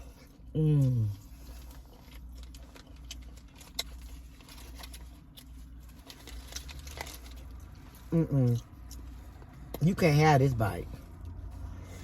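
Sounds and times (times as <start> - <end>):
crunchy chewing: 0.0 - 9.9.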